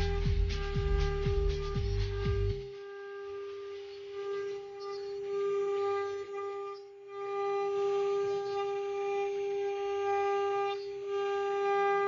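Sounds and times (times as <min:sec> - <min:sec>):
router spindle high whine: 0:00.0 - 0:12.0.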